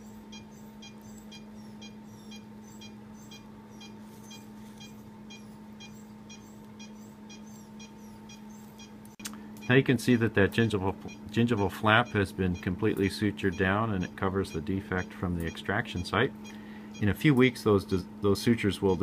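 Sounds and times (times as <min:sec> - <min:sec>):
patient monitor beeping: 0:00.0 - 0:17.6, 0:18.5 - 0:19.0
low equipment hum: 0:00.0 - 0:19.0.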